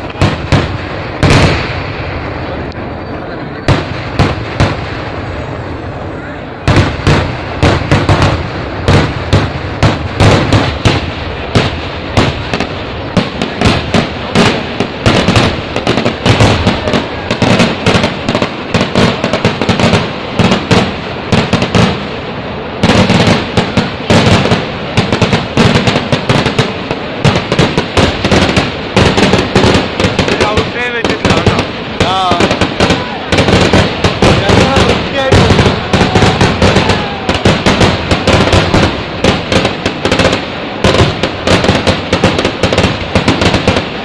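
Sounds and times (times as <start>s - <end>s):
fireworks blasts and crackles: 0.0s - 44.0s.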